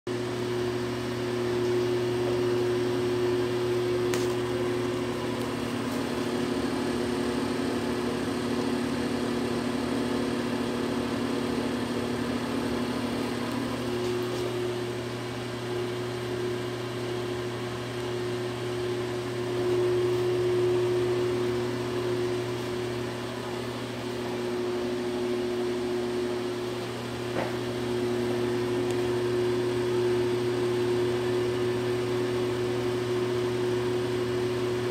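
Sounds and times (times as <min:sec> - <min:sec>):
exhaust fan motor hum: 0:00.1 - 0:34.9.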